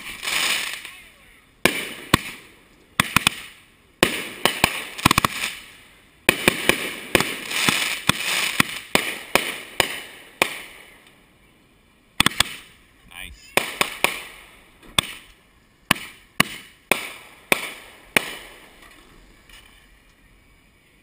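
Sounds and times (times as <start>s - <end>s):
fireworks bangs: 0.0s - 11.2s, 12.2s - 20.0s
fireworks hissing: 0.0s - 11.2s, 12.2s - 20.9s.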